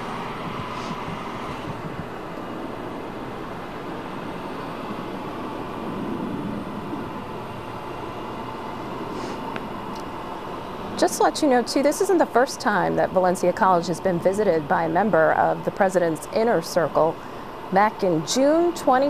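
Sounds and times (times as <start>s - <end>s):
jet aircraft rumble and hiss: 0.0s - 19.0s.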